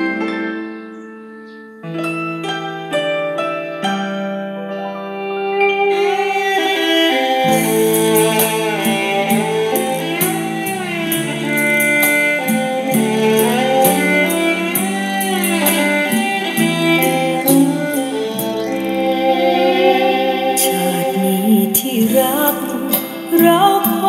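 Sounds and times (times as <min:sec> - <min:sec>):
melodic music with steady beat: 0:00.0 - 0:24.0.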